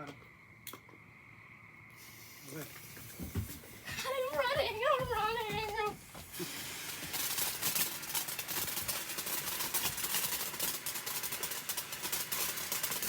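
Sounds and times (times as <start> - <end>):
firework crackling: 1.9 - 13.0.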